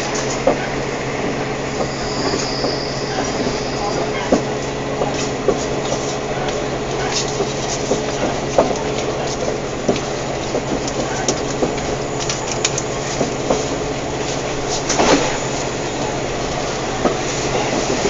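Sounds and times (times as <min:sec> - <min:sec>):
train interior hum: 0:00.0 - 0:18.0
wheels rumbling on track: 0:00.0 - 0:18.0.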